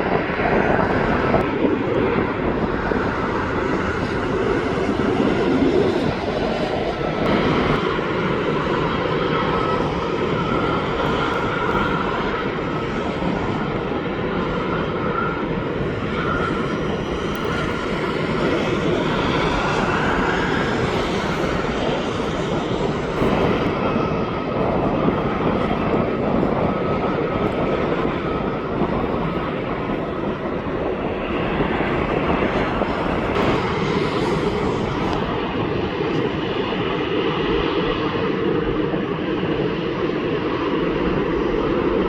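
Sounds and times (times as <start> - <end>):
jet engines rushing with whine: 0.0 - 42.0.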